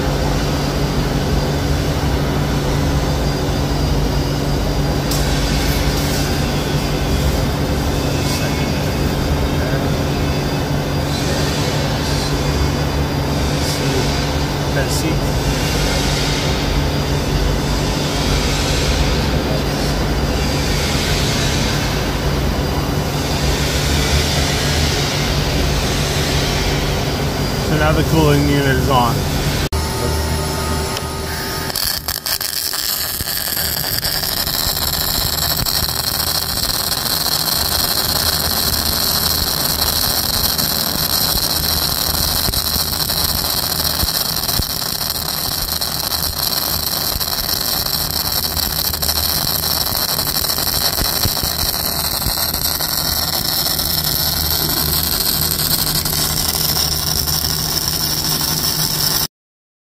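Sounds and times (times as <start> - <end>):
welding arc buzzing: 0.0 - 17.5, 23.1 - 59.3.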